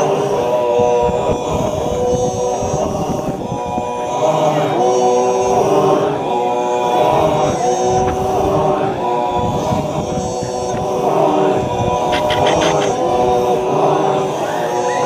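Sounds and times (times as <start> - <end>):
men chanting a cappella: 0.0 - 15.0.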